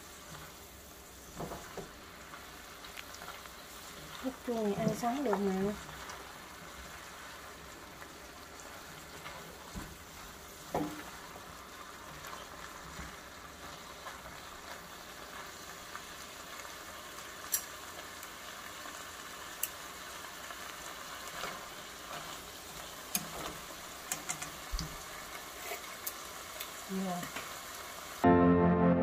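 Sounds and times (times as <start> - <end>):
stir-fry sizzling in a pan: 0.0 - 28.3.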